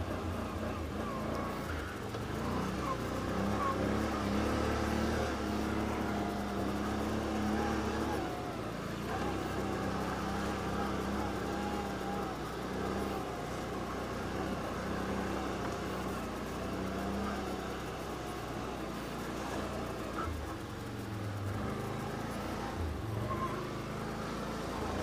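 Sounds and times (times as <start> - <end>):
atv engine under throttle: 0.0 - 25.0
wind: 0.0 - 25.0.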